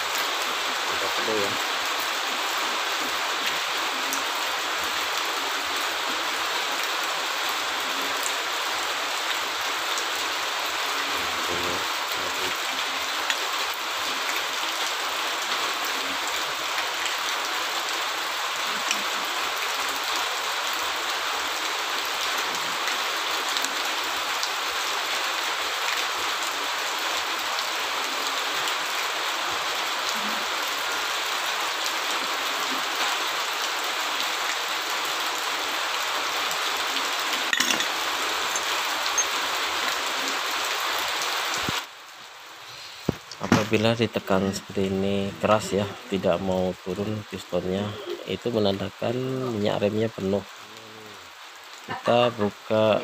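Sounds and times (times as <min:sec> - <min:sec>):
steady hiss: 0:00.0 - 0:53.0.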